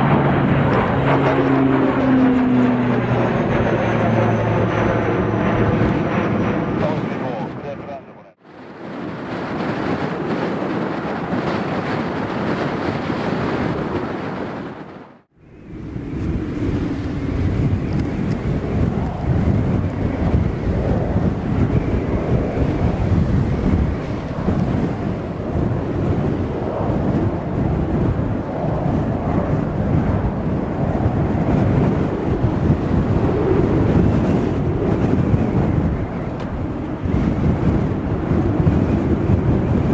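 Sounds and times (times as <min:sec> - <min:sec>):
gusty wind buffeting microphone: 0:00.0 - 0:39.9.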